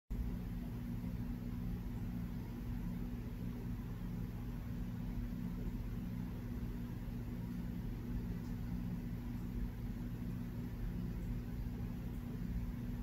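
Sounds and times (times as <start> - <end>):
low mechanical hum: 0.1 - 13.0.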